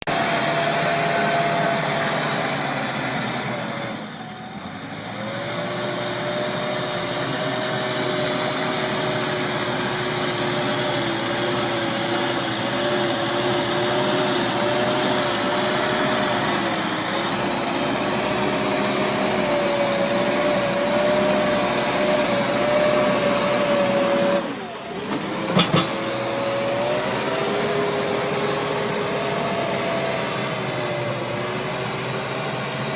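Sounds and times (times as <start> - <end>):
diesel engine under load: 0.0 - 32.9.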